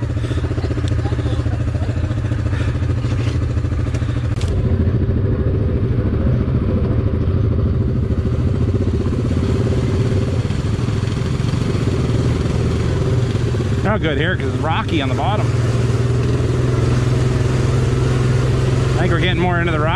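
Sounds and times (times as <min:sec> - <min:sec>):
atv engine running: 0:00.0 - 0:19.9.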